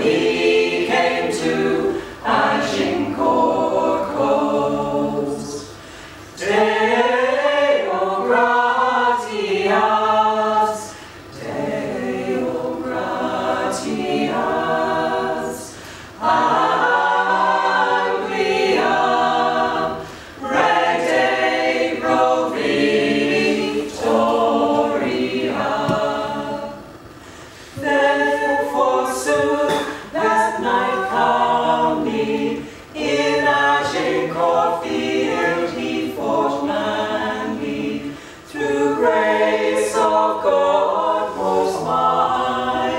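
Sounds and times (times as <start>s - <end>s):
choir singing a cappella: 0.0s - 42.9s.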